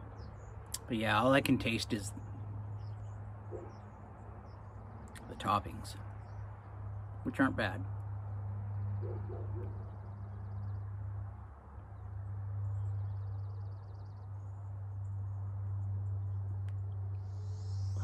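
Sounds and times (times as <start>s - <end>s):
small birds trilling: 0.0s - 8.0s, 8.6s - 18.0s
steady low hum: 0.0s - 18.0s.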